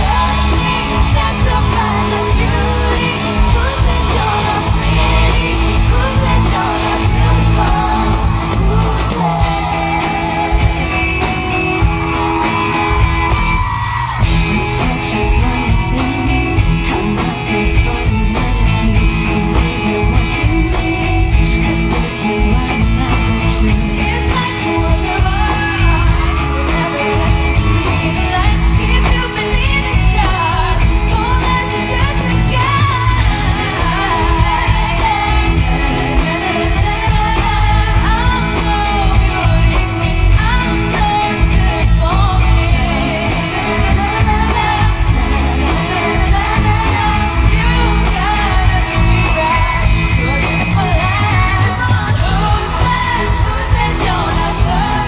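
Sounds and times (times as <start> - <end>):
pop song with female singing: 0.0 - 55.0.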